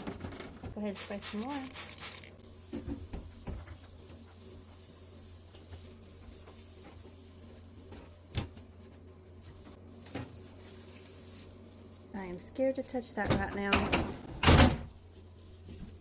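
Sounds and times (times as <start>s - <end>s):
low appliance hum: 0.0s - 16.0s.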